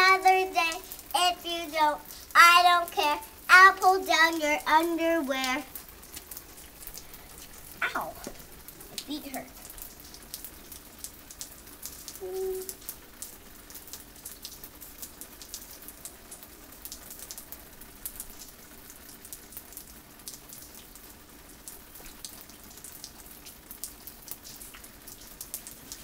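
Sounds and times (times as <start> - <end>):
rain falling and dripping: 0.0 - 26.0.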